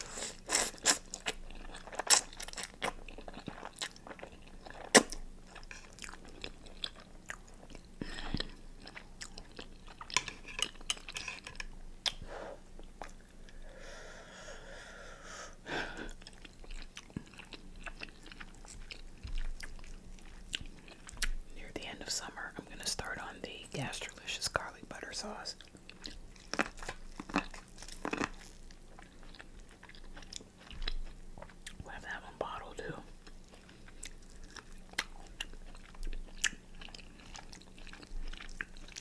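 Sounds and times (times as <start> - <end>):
person chewing and crunching: 0.0 - 13.6, 15.8 - 21.5, 25.2 - 39.0.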